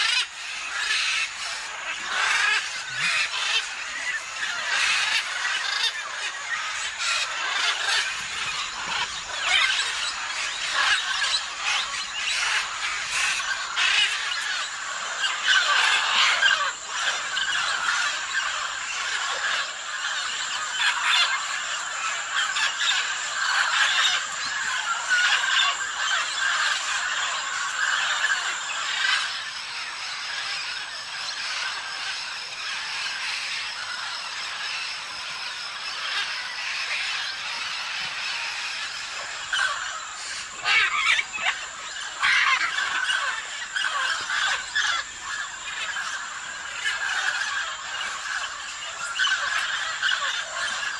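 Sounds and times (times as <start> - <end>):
macaws squawking: 0.0 - 50.9.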